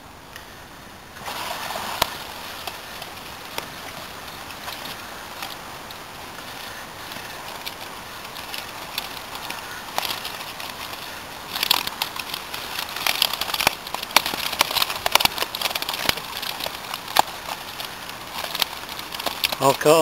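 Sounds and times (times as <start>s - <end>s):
net crackling and rustling: 1.2s - 20.0s.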